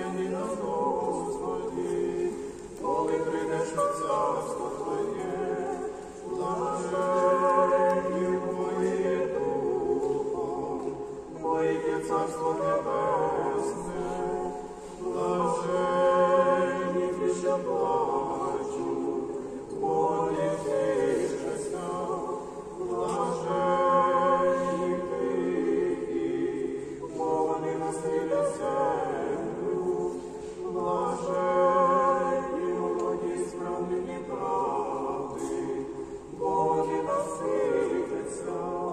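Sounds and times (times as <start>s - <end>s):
choir singing a chant in harmony: 0.0s - 38.9s.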